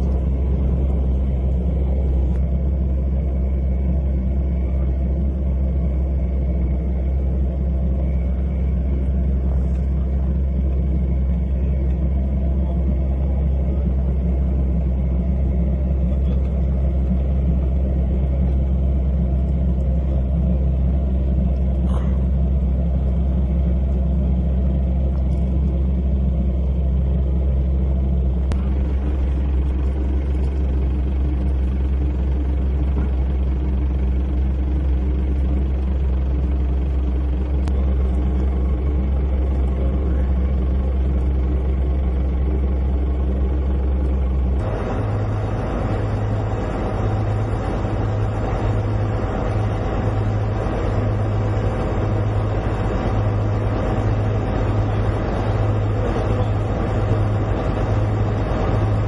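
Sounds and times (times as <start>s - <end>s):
large engine running: 0.0s - 59.0s.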